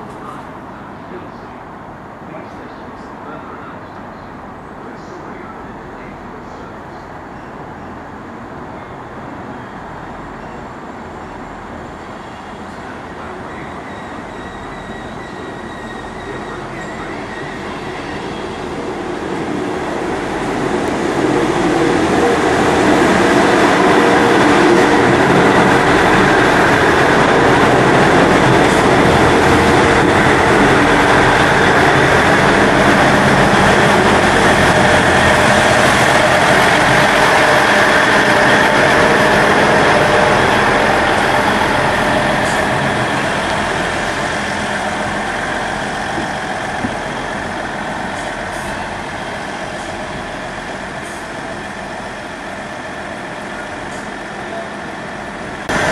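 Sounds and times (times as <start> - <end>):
passenger train passing on rails: 0.0 - 55.9.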